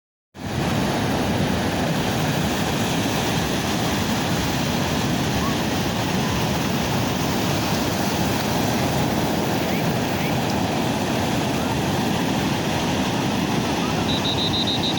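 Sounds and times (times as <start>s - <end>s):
sea waves and surf washing: 0.4s - 14.9s.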